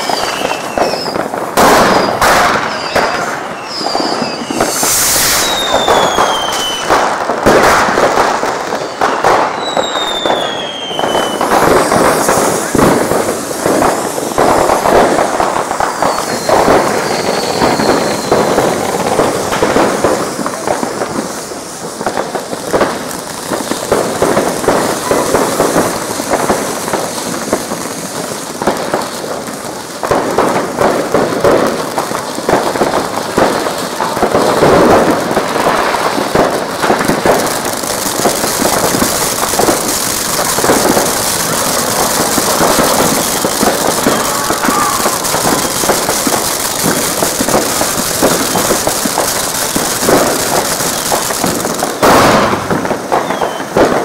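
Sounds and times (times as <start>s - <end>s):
fireworks and firecrackers popping: 0.0s - 54.0s.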